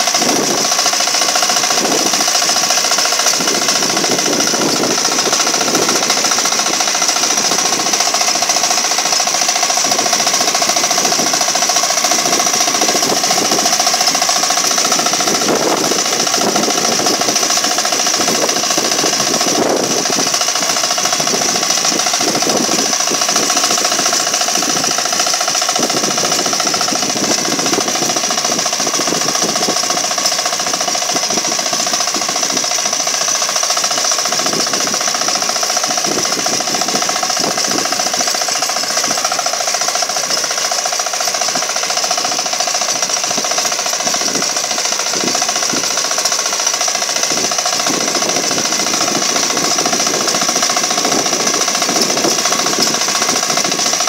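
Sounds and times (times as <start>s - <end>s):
small engine running under load: 0.0s - 54.0s
tiller plowing soil: 0.0s - 54.0s.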